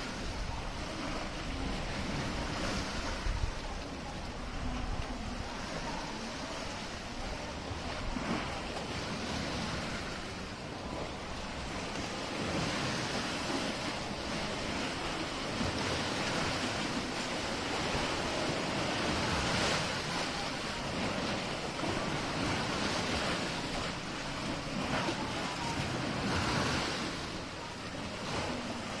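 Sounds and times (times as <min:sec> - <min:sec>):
sea waves breaking: 0:00.0 - 0:29.0
wind buffeting microphone: 0:00.0 - 0:29.0.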